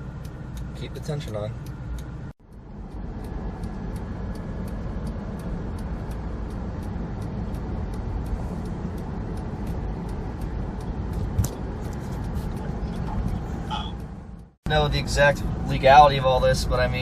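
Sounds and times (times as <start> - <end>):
road and tyre rumble: 0.0 - 17.0
faint light ticks: 0.1 - 14.6.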